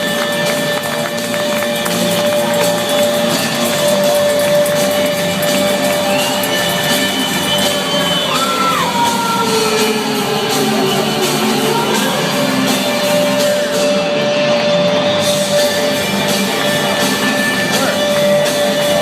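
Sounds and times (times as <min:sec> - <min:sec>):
crowd shouting and whooping: 0:00.0 - 0:16.0
rock music over sound system: 0:00.0 - 0:19.0.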